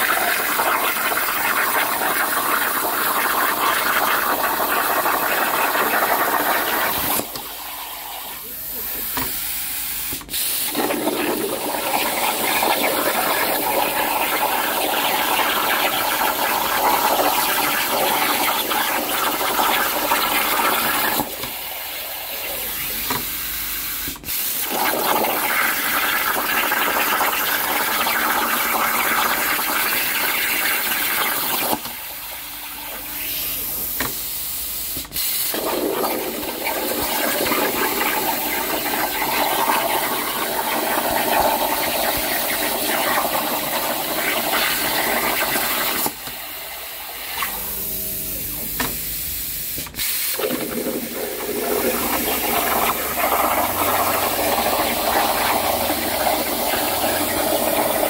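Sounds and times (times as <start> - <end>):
plasma cutter hissing: 0.1 - 58.0.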